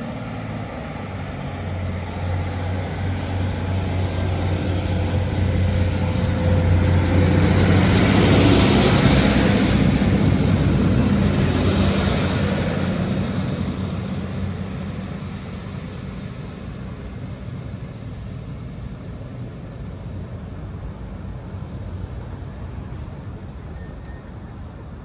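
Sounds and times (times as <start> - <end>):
diesel train engine drone: 0.0 - 25.0.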